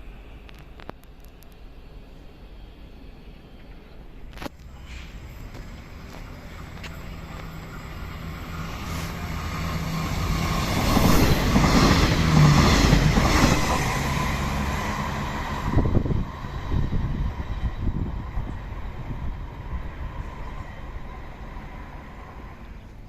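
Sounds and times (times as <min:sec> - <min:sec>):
train passing on rails: 0:00.0 - 0:23.0.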